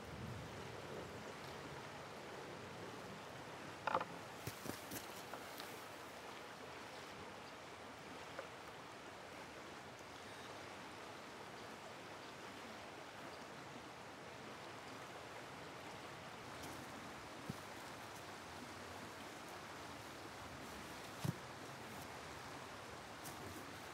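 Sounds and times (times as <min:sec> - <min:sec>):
river flowing: 0:00.0 - 0:23.9.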